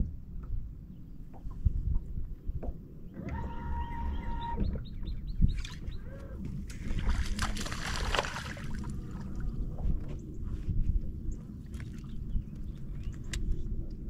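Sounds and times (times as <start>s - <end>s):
steady low rumble: 0.0s - 3.2s, 4.0s - 14.0s.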